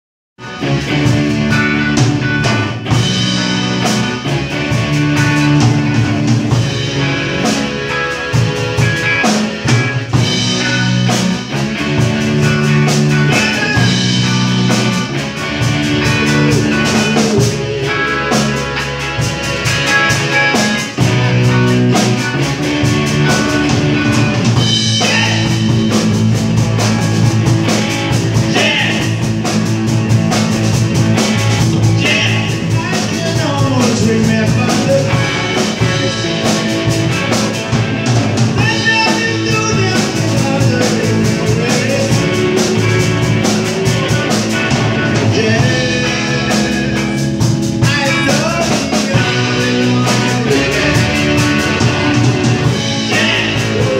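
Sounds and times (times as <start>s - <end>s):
drum kit: 0.4s - 53.9s
electric guitars: 0.4s - 53.9s.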